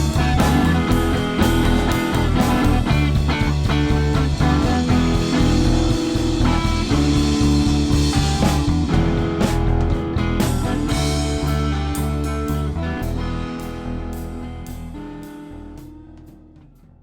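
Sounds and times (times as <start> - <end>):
electric guitar: 0.0 - 16.9
bass guitar: 0.0 - 17.0
drum kit: 0.0 - 17.0.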